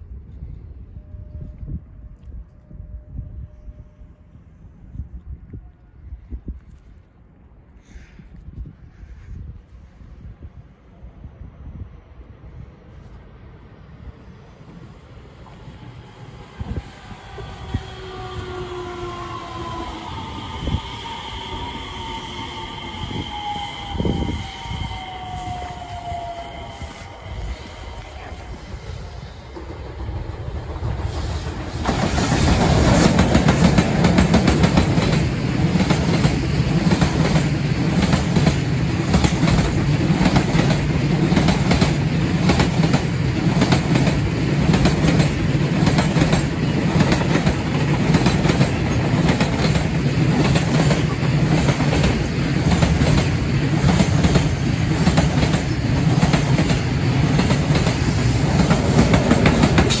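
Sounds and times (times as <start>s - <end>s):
freight train rumbling past: 9.1s - 60.0s.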